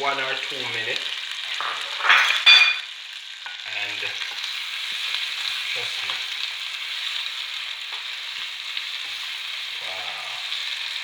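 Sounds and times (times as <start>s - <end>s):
vegetables sizzling in butter: 0.0s - 11.0s.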